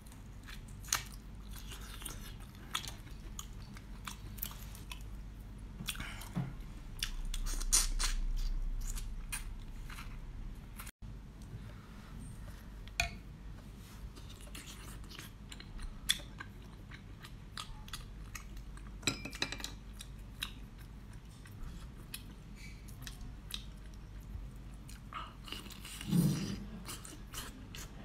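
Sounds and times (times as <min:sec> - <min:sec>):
person chewing food wetly: 0:00.0 - 0:11.5, 0:12.5 - 0:19.0, 0:19.6 - 0:28.0.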